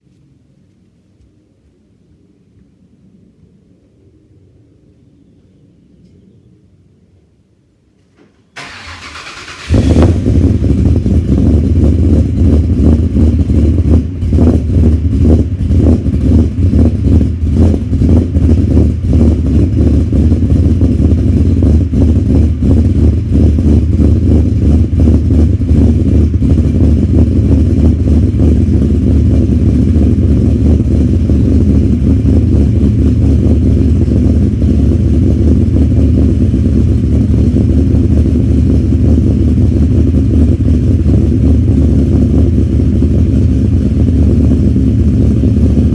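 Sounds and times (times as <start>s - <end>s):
loud car engine idling: 8.6s - 45.9s.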